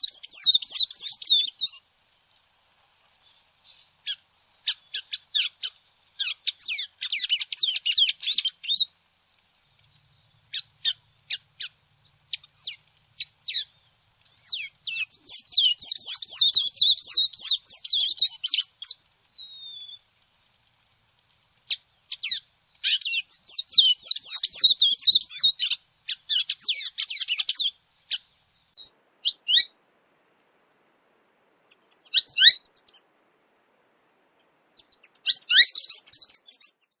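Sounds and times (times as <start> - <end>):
songbird chirping: 0.0 - 37.0.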